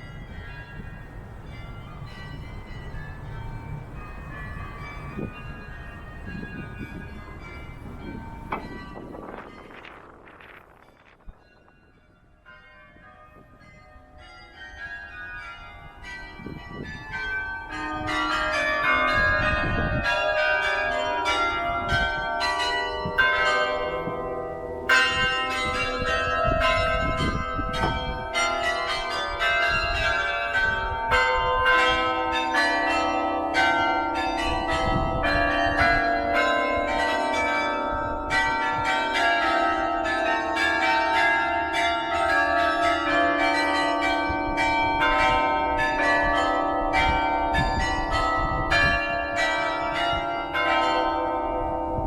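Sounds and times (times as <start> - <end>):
carillon bells playing a tune: 0.0 - 52.0.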